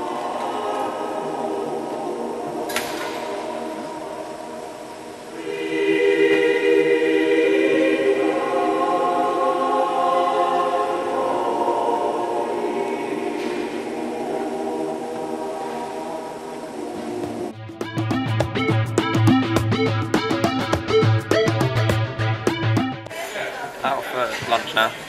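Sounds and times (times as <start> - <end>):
choir singing held chords: 0.0 - 24.2.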